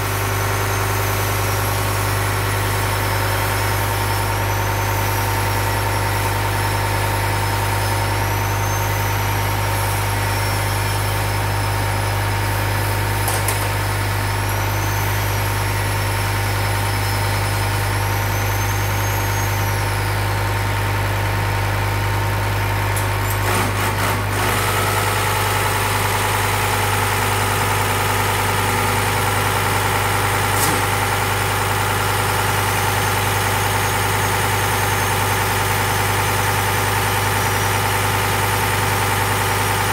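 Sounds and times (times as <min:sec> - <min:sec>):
fuel injection pump humming: 0:00.0 - 0:39.9.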